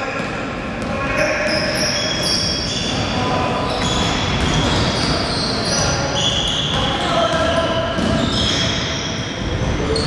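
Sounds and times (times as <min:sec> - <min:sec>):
crowd noise: 0:00.0 - 0:10.0
shoes squeaking on court: 0:00.9 - 0:09.2, 0:09.8 - 0:10.0.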